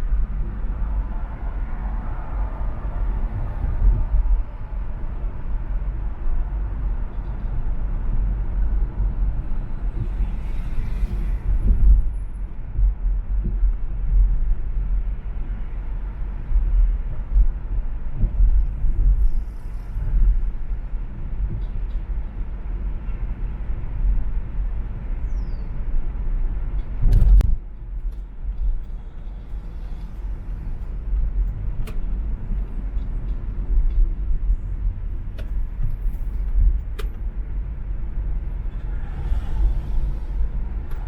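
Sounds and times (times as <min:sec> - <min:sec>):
traffic rumble from moving car: 0:00.0 - 0:41.0.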